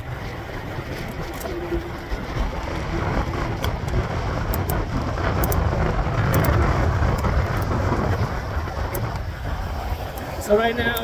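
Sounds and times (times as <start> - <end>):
road traffic noise: 0.0 - 11.0
wind rumbling on microphone: 0.0 - 11.0.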